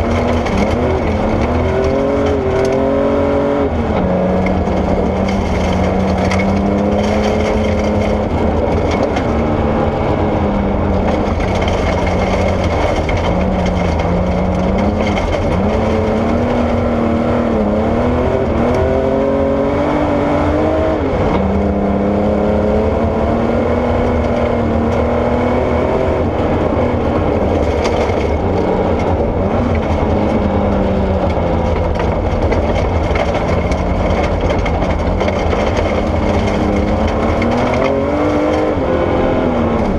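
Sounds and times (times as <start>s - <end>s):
gravel rushing under tyres: 0.0s - 19.3s, 20.9s - 39.9s
rally car engine revving: 0.0s - 39.9s.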